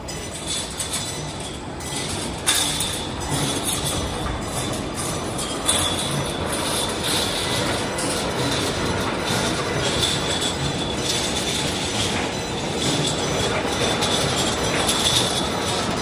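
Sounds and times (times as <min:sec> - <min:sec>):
machine clank: 0:00.2 - 0:16.0
welding machine running: 0:01.1 - 0:16.0.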